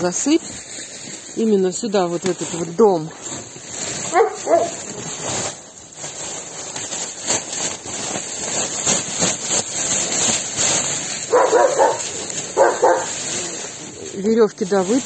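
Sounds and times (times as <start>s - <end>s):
falling straw crackling: 0.0s - 15.0s
plastic bag crinkling: 0.0s - 15.0s.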